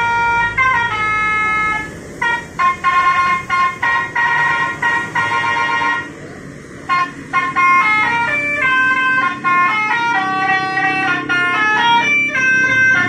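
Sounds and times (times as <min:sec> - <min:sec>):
electronic horn playing tune: 0:00.0 - 0:06.2, 0:06.9 - 0:13.0.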